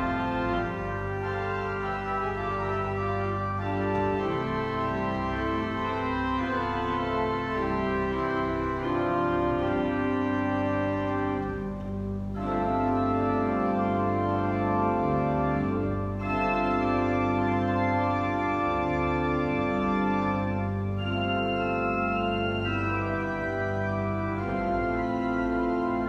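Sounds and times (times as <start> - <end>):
church organ playing chords: 0.0 - 26.0.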